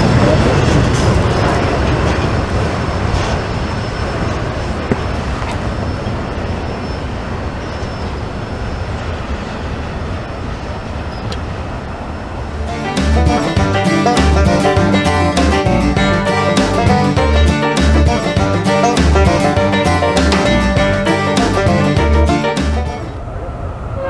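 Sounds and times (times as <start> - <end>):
freight train rumbling past: 0.0 - 24.0.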